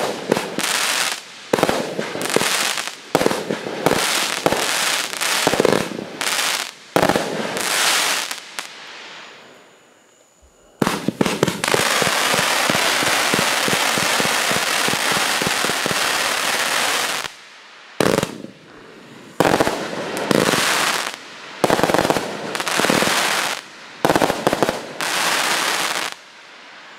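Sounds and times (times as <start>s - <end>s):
firework shots bursting: 0.0s - 8.8s, 10.8s - 17.4s, 18.0s - 18.6s, 19.4s - 26.2s
firework crackling: 0.0s - 26.9s.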